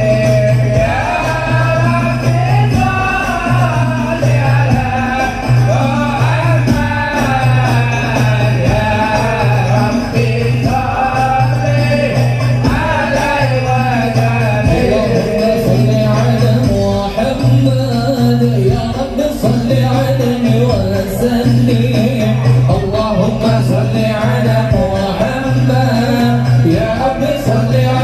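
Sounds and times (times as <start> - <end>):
devotional singing: 0.0 - 28.0
hand percussion and jingles: 0.0 - 28.0
pulsing bass: 0.0 - 28.0.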